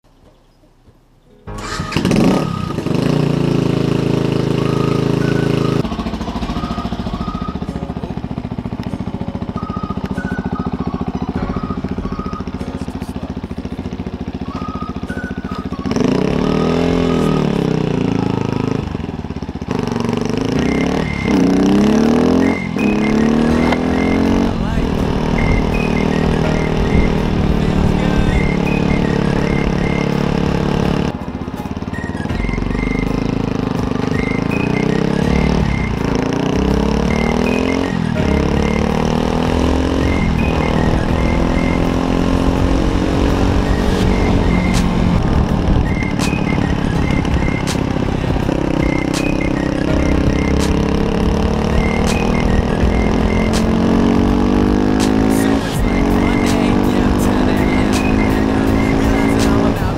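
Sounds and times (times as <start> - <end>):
motorcycle engine revving: 1.5 - 59.9.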